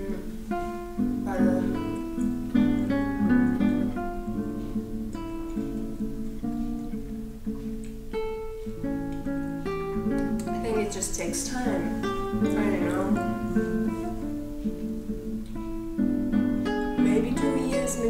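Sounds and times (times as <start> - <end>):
acoustic guitar melody: 0.0 - 18.0.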